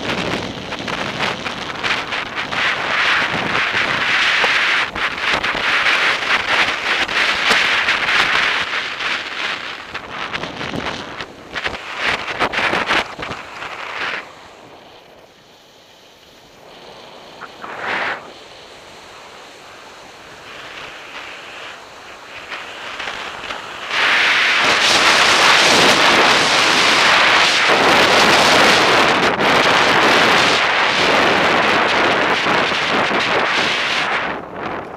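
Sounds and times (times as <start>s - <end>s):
skis hissing and scraping on snow: 0.0s - 34.9s
wind rushing over microphone: 0.0s - 34.9s.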